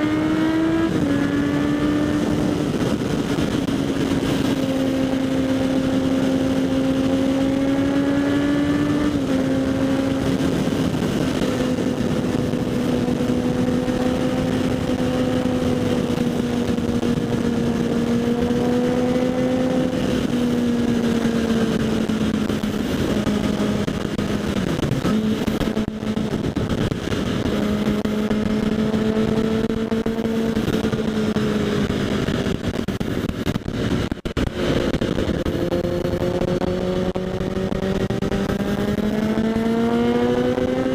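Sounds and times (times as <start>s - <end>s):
motorcycle engine cruising: 0.0s - 40.9s
wind rush over microphone: 0.0s - 40.9s.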